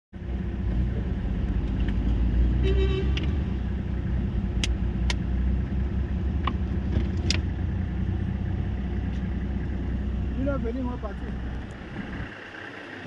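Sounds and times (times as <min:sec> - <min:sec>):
diesel engine rumbling: 0:00.2 - 0:13.0.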